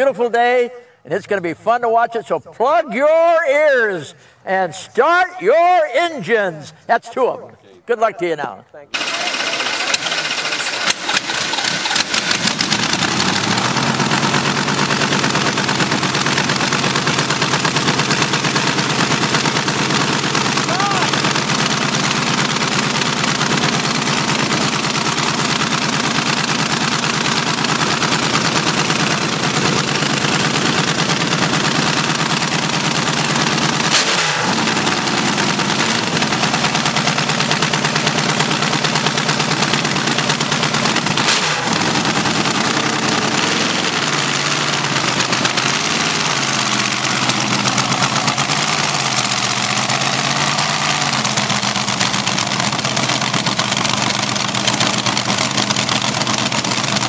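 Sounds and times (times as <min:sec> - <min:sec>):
dragster engines popping idle: 0:08.9 - 0:57.0
engine throttle blips: 0:08.9 - 0:57.0
sharp engine crack: 0:08.9 - 0:57.0.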